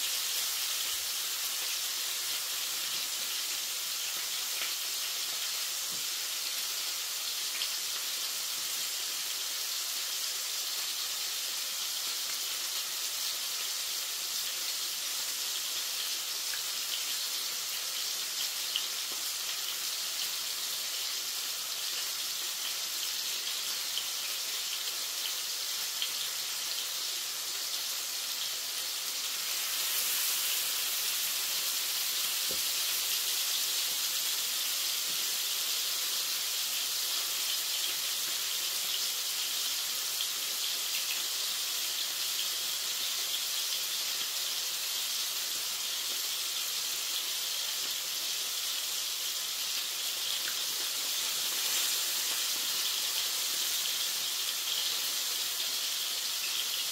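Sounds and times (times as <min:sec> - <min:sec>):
meat sizzling in a frying pan: 0:00.0 - 0:56.9.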